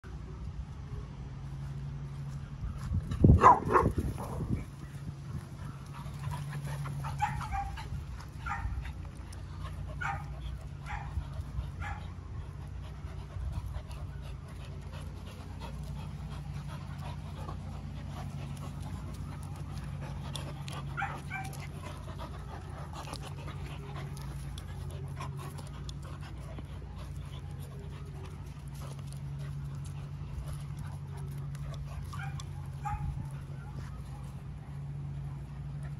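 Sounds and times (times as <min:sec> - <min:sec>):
steady low hum: 0:00.0 - 0:35.9
dogs play noise: 0:01.5 - 0:35.9
dogs panting: 0:02.2 - 0:35.9.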